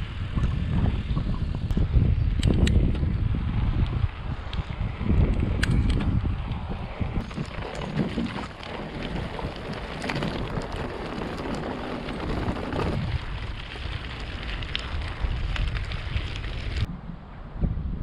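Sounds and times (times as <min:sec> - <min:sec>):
bike tyres rolling over gravel: 0:00.0 - 0:16.9
wind on microphone: 0:00.0 - 0:18.0.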